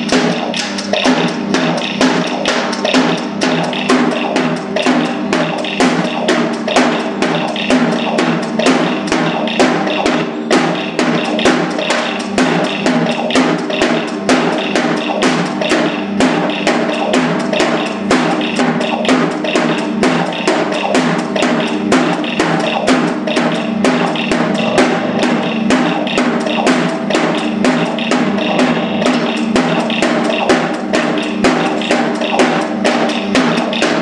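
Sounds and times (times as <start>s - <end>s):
sustained pitched drone: 0.0s - 33.8s
drum hits: 0.0s - 34.0s.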